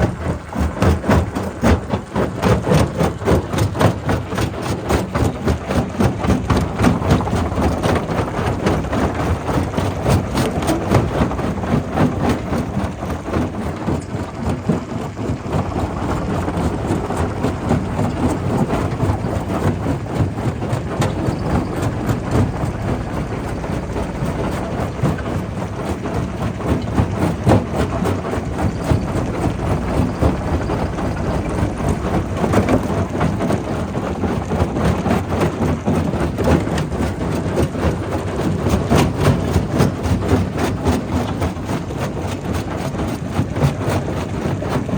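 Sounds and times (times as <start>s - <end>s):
heavy machine rumble: 0.0s - 44.9s.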